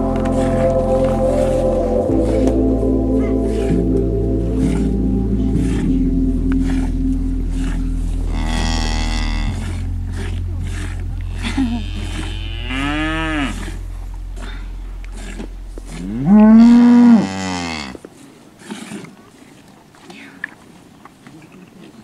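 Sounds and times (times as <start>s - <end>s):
cattle mooing: 0.0s - 18.0s.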